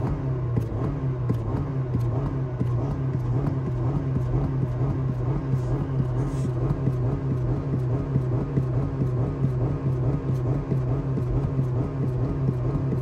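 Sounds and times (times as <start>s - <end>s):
car engine hum from inside cabin: 0.0s - 13.0s.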